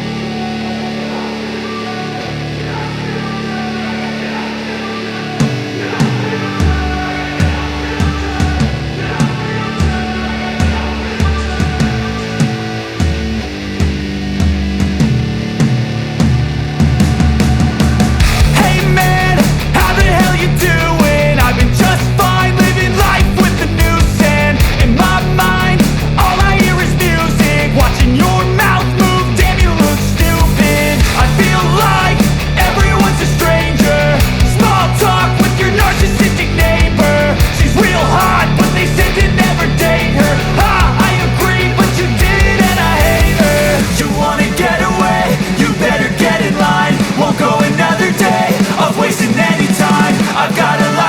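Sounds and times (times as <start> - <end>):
rock background music: 0.0 - 51.0.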